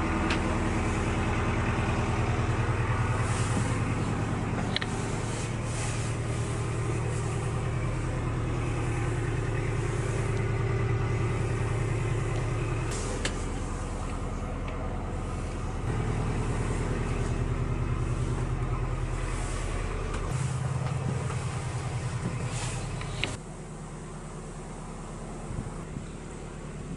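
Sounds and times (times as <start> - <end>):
diesel engine droning: 0.0 - 26.9.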